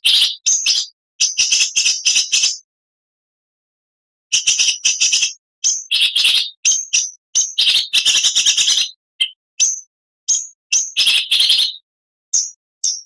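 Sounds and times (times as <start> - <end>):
bird singing: 0.0 - 2.7, 4.3 - 13.0.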